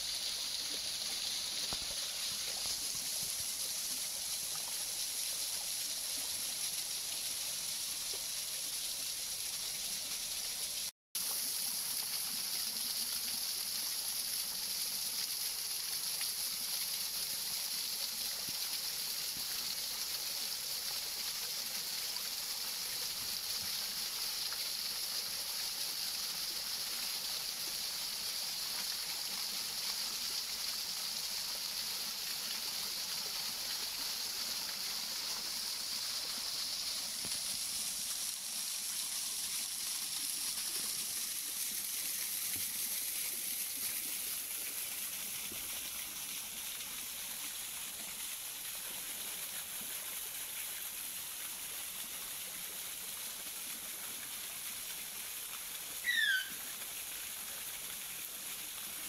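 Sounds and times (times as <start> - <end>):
small waterfall pouring: 0.0 - 59.0.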